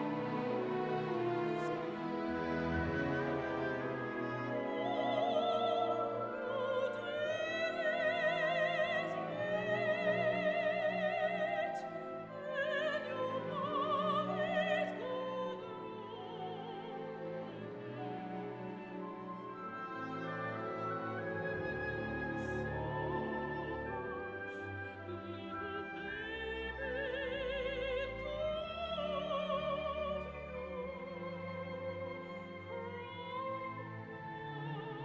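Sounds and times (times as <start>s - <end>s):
operatic singing with vibrato: 0.0s - 35.0s
orchestral accompaniment: 0.0s - 35.0s.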